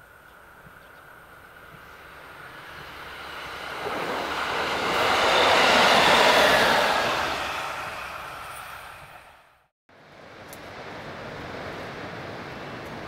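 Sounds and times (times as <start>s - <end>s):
diesel railcar passing: 0.0s - 13.0s.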